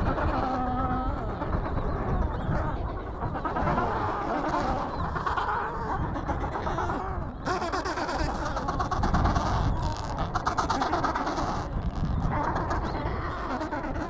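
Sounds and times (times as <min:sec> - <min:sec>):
penguin colony calling: 0:00.0 - 0:14.0
rapid pulsing penguin calls: 0:00.0 - 0:14.0
wind rumble on microphone: 0:00.0 - 0:14.0.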